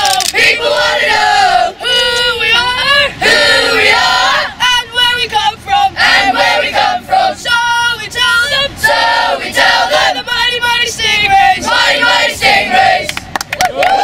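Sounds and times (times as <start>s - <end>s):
boys chanting in unison: 0.0s - 13.2s.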